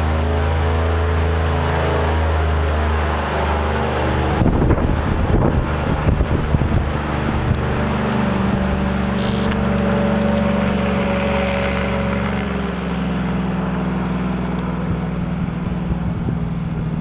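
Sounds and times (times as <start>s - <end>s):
airboat engine drone: 0.0s - 17.0s.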